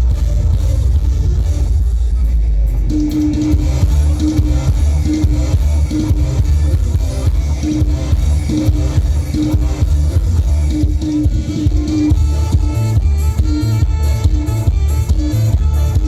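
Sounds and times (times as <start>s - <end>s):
drum kit beat: 0.0s - 16.0s
heavy bass: 0.0s - 16.0s
live band music: 0.0s - 16.0s.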